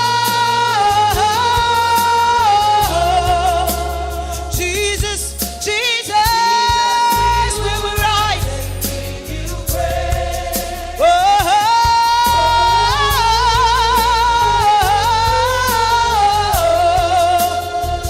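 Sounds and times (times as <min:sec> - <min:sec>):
gospel worship music: 0:00.0 - 0:18.0.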